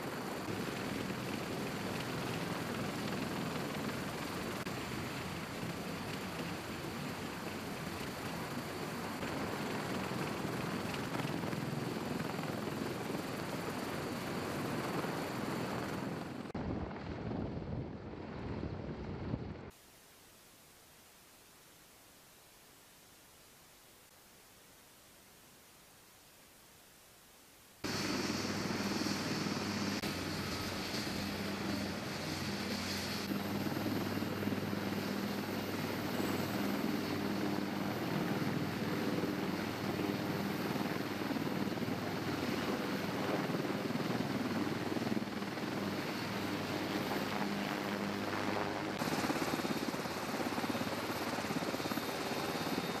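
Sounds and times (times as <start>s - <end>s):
helicopter rotors and engines: 0.0s - 19.7s, 27.8s - 53.0s.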